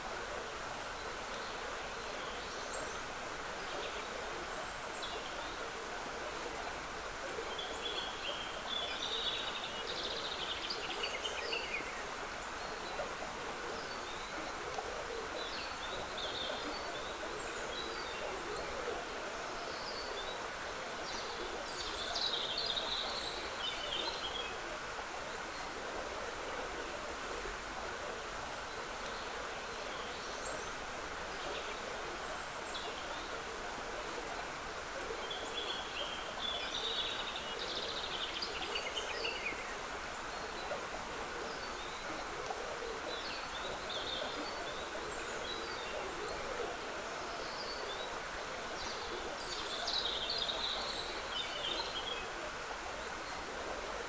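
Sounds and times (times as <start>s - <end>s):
trickling stream: 0.0s - 54.0s.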